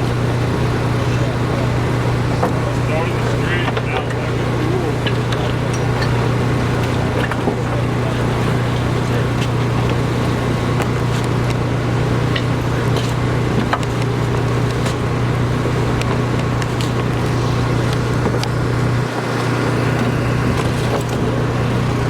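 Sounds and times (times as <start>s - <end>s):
machinery engine humming: 0.0s - 22.0s.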